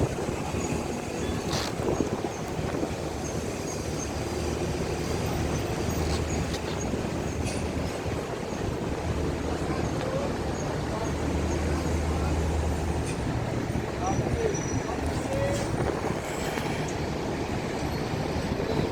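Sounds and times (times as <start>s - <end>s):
ship engine rumbling: 0.0s - 18.9s.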